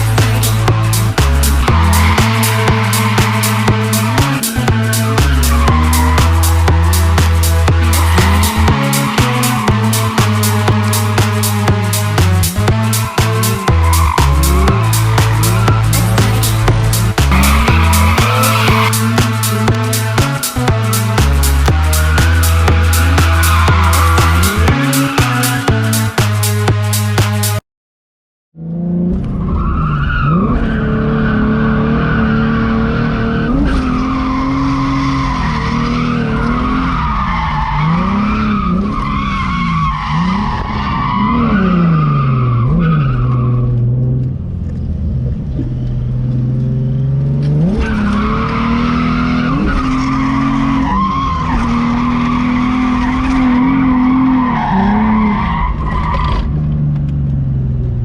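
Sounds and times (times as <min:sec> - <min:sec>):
car engine revving: 0:00.0 - 0:27.6, 0:28.6 - 0:58.0
tires squealing: 0:00.0 - 0:27.6, 0:28.7 - 0:57.6.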